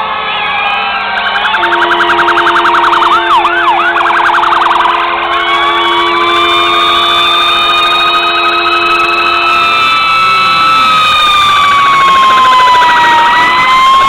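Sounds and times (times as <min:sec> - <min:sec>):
fire truck siren yelping: 0:01.0 - 0:14.0
higher siren warbling: 0:01.2 - 0:14.0.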